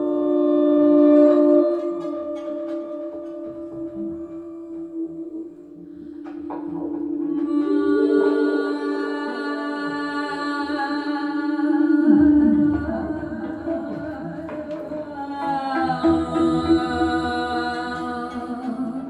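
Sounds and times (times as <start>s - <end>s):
long held notes: 0.0s - 19.0s.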